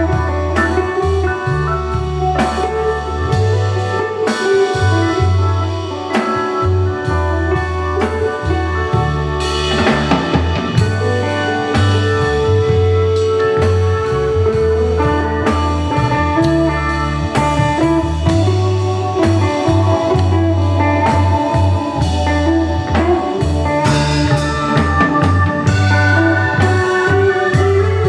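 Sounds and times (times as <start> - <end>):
bass guitar line: 0.0 - 28.0
drum kit steady beat: 0.0 - 28.0
electric guitar: 0.0 - 28.0
held keyboard notes: 0.0 - 28.0.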